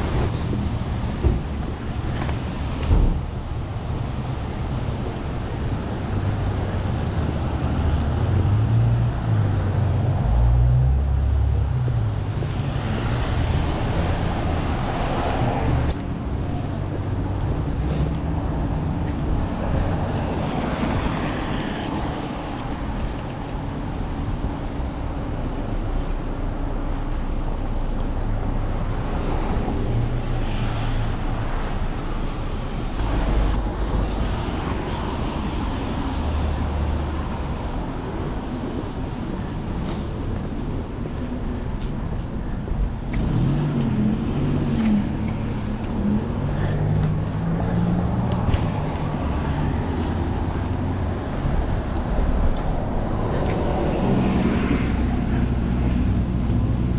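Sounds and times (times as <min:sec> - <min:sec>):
traffic passing: 0:00.0 - 0:56.9.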